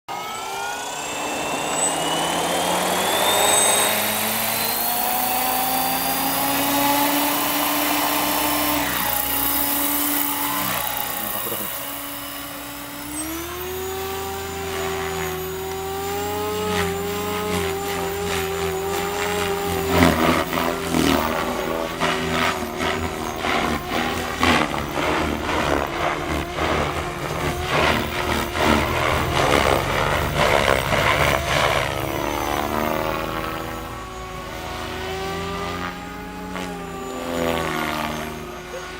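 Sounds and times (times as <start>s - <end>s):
rc helicopter motor whine: 0.0s - 38.9s.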